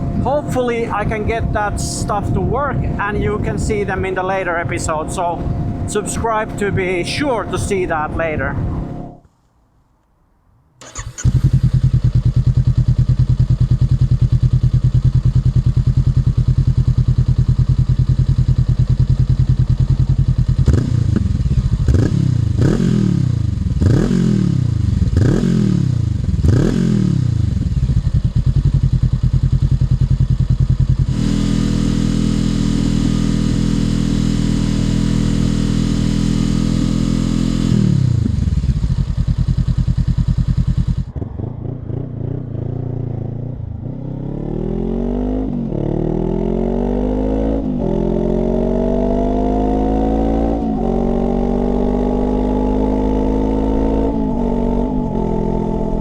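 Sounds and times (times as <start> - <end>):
motorcycle engine revving: 0.0 - 9.2, 10.8 - 56.0.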